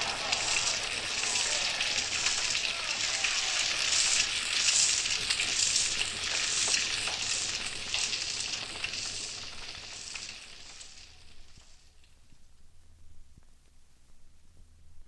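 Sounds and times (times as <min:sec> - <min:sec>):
fire crackling and hissing: 0:00.0 - 0:13.0.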